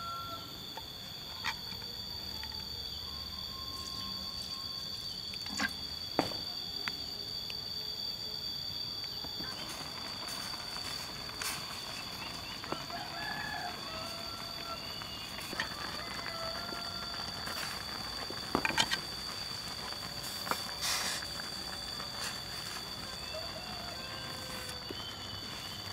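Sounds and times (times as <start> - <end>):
forest insects droning: 0.0 - 25.9.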